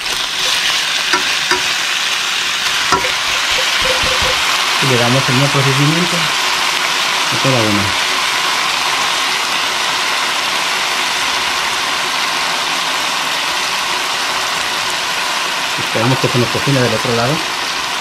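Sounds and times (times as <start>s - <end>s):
steaks sizzling in oil: 0.0s - 18.0s.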